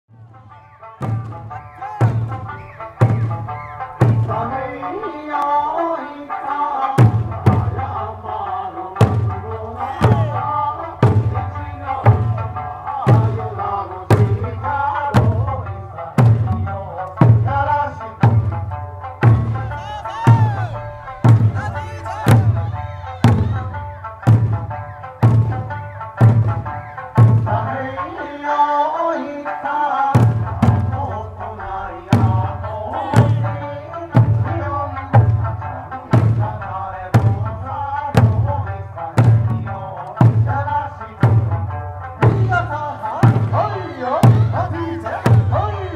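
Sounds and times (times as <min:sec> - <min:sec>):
drums struck in unison: 0:00.1 - 0:05.0, 0:07.0 - 0:28.2, 0:30.1 - 0:45.9
person singing: 0:00.3 - 0:18.5, 0:19.3 - 0:24.0, 0:27.0 - 0:45.9.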